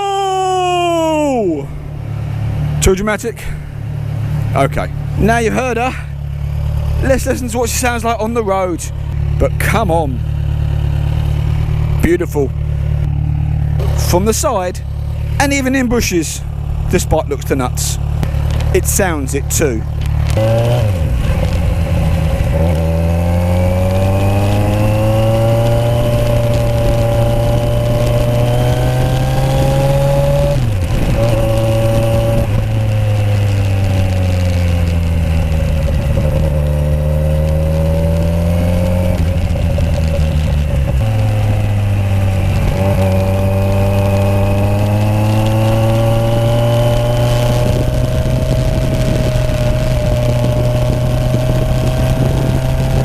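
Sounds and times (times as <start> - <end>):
motorcycle engine revving: 1.3 - 53.0.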